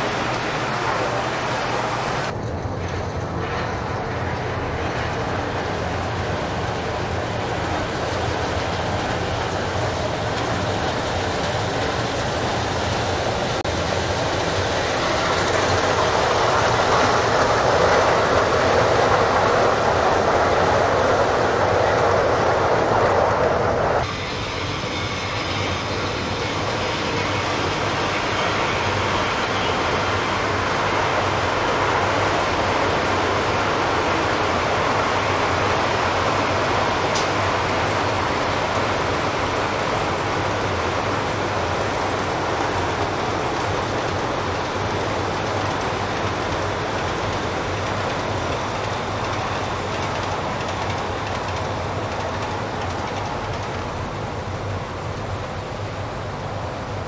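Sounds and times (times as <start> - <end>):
model train wheels rumbling on rail: 0.0 - 57.0.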